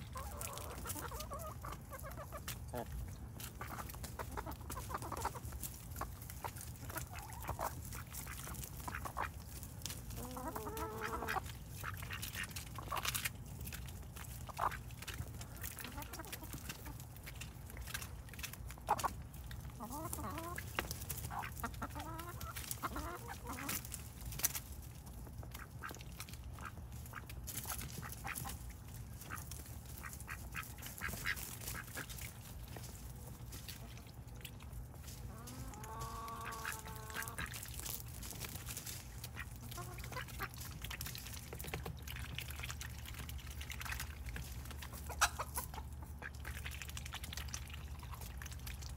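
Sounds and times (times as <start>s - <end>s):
duck and chicken calls: 0.0s - 13.3s, 14.2s - 24.0s, 25.2s - 41.1s, 42.1s - 48.8s
bills pecking at leaves: 0.0s - 48.9s.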